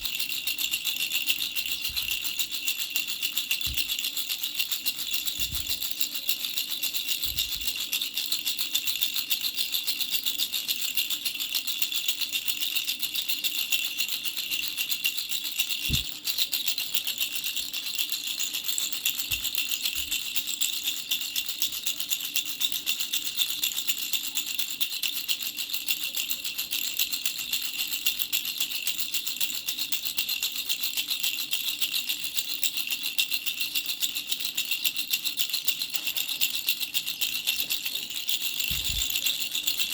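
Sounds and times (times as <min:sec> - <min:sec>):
baby rattle shaken rapidly: 0:00.0 - 0:39.9.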